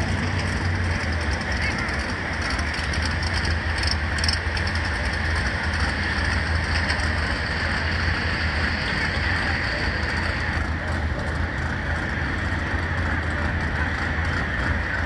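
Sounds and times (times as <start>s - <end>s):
car engine idling deep rumble: 0.0s - 15.0s.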